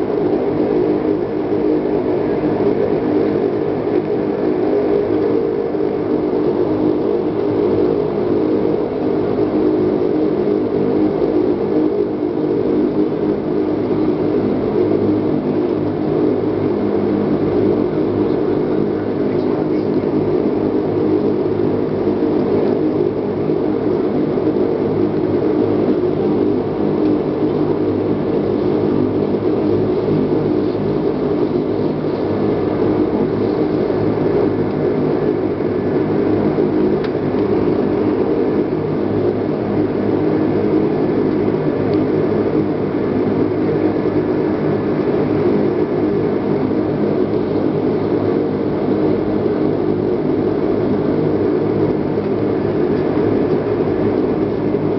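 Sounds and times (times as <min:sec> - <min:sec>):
turboprop engines droning: 0:00.0 - 0:54.9.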